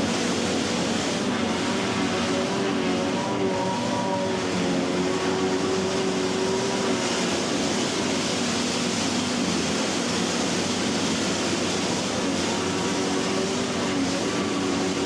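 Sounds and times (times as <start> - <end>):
tractor and harvester engines: 0.0 - 15.0.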